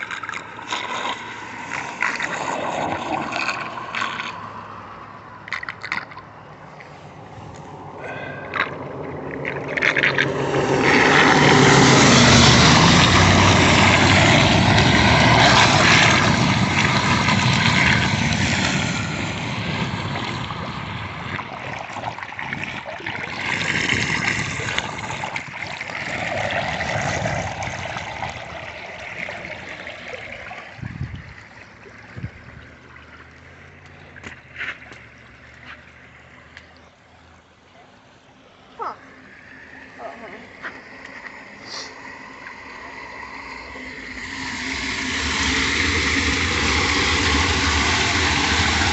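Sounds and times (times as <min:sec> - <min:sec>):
floodwater rushing and gurgling: 0:00.0 - 0:48.9.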